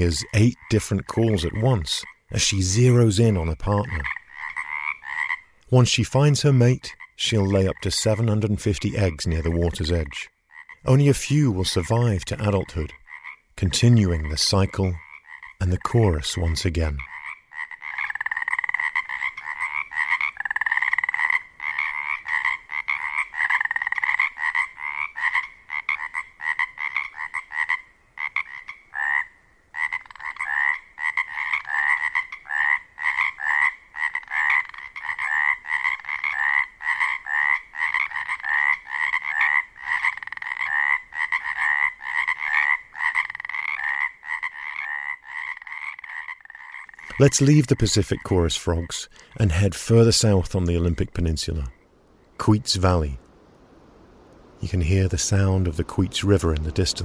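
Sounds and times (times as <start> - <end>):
chorus of croaking frogs: 0.0 - 5.7, 6.6 - 49.7, 51.5 - 53.2.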